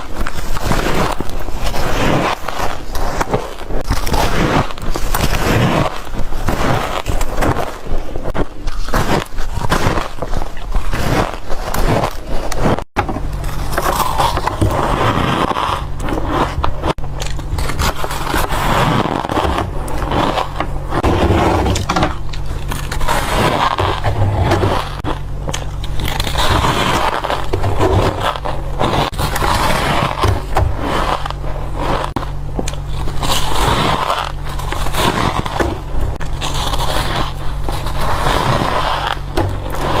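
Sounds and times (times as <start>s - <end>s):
ice crunching between teeth: 0.0s - 40.0s
low hum: 0.0s - 40.0s.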